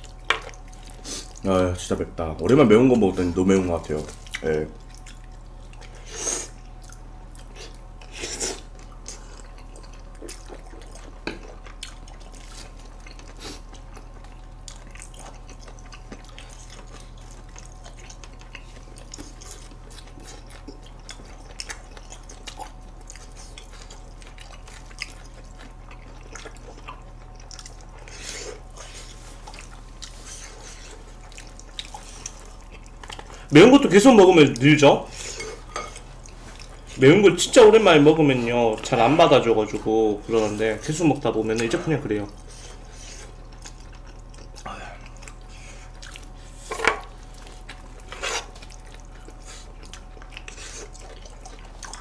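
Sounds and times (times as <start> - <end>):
wet chewing: 3.7 - 52.0.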